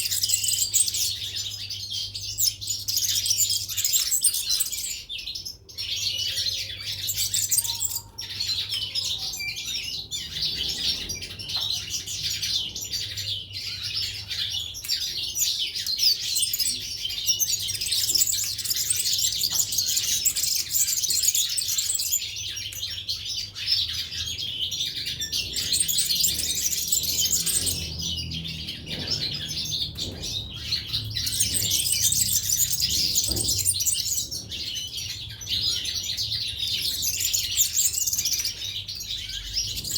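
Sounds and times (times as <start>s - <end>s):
caged birds chirping and twittering: 0.0s - 39.9s.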